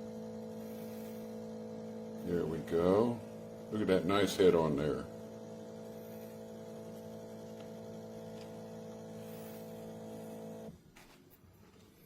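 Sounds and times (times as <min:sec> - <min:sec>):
espresso machine humming: 0:00.0 - 0:10.8.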